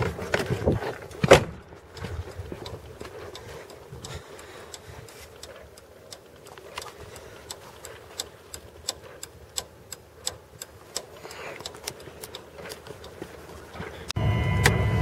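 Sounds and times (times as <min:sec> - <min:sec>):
footsteps on pavement: 0:00.0 - 0:09.4, 0:10.8 - 0:14.2.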